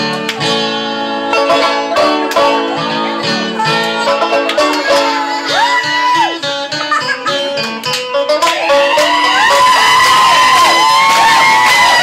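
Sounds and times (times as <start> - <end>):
banjo picking: 0.0 - 10.4.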